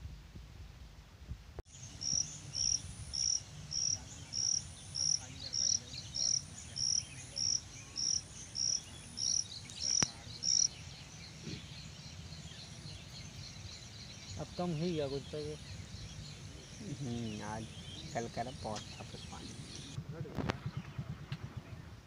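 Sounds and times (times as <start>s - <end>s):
cricket chirping: 1.7s - 20.0s.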